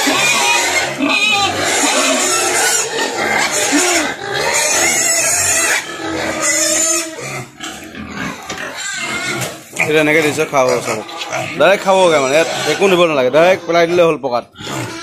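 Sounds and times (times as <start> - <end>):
pigs squealing: 0.0 - 15.0.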